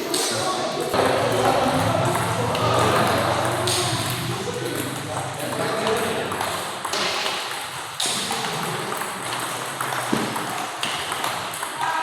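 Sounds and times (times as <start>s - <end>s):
background noise: 0.0s - 12.0s.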